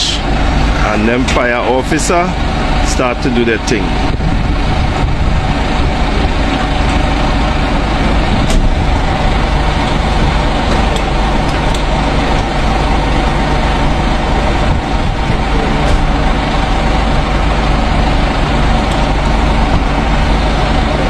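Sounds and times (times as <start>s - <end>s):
heavy vehicle engine idling: 0.0s - 21.0s.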